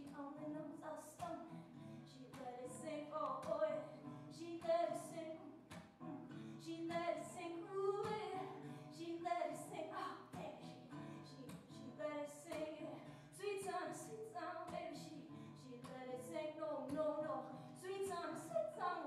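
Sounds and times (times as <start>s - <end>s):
woman singing: 0.0s - 5.5s, 6.6s - 19.0s
strummed acoustic guitar: 0.0s - 19.0s.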